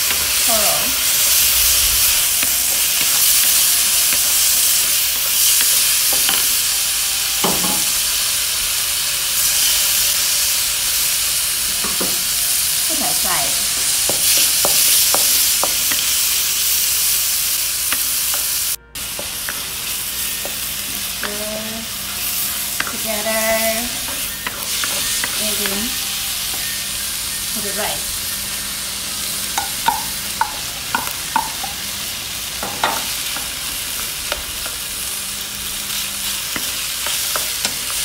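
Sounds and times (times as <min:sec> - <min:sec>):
food sizzling in a wok: 0:00.0 - 0:38.0.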